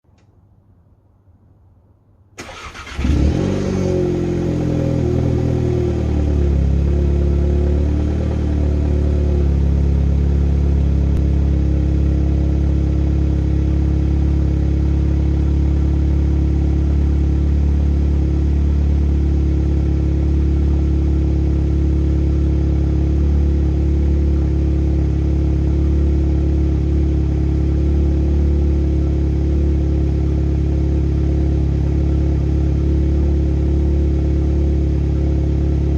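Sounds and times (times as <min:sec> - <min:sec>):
car engine starting and idling: 0:02.4 - 0:35.9.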